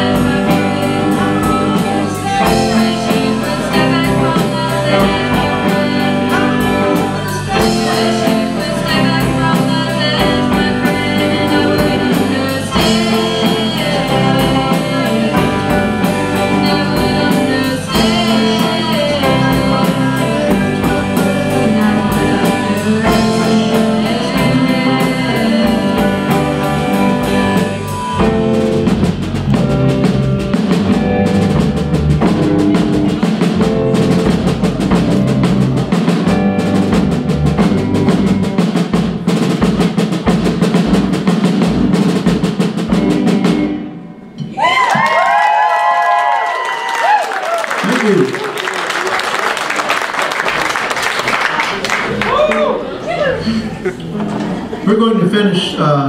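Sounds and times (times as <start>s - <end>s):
drum hits: 0.0s - 45.4s
live rock band playing: 0.0s - 56.0s.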